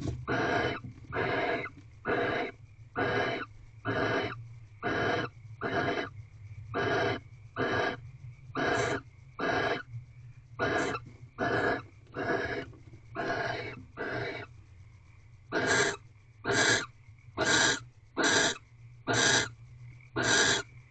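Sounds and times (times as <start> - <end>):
owl rasping hiss calls: 0.3 - 9.9, 10.6 - 14.5, 15.5 - 19.6, 20.2 - 20.7.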